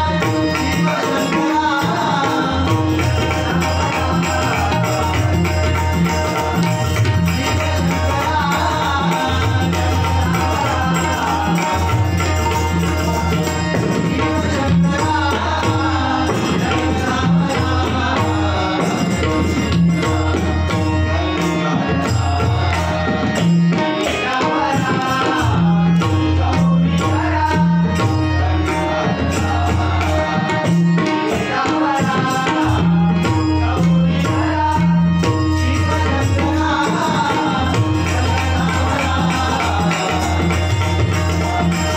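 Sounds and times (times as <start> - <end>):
tabla playing steady rhythm: 0.0 - 41.9.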